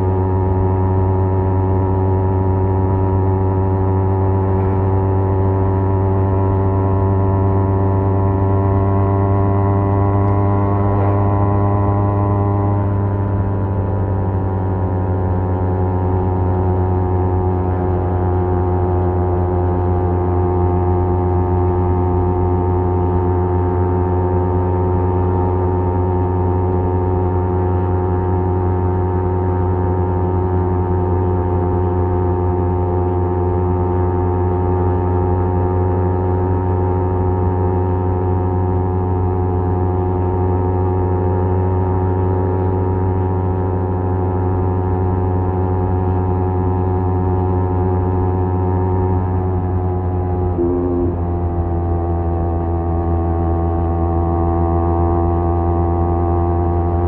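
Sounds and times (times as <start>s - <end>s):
motorcycle exhaust droning: 0.0s - 57.0s.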